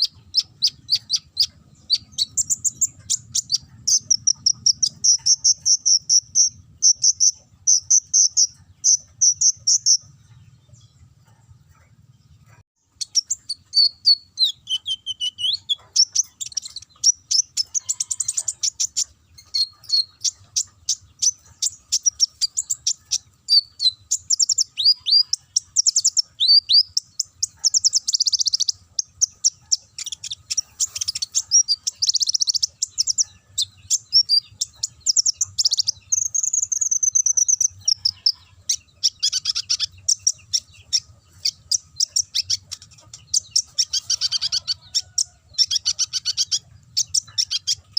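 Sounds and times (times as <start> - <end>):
songbird singing fast trills: 0.0 - 11.7, 12.8 - 47.9.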